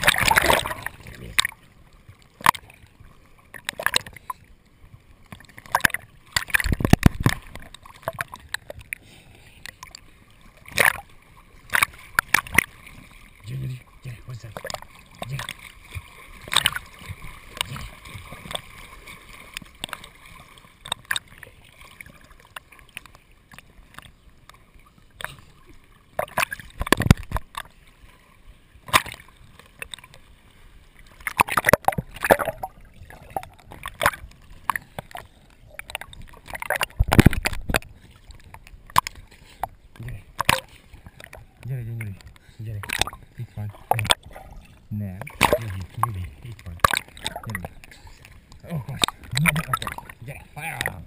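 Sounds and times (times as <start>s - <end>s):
underwater gurgling: 0.0s - 51.0s
water splashing: 0.0s - 51.0s.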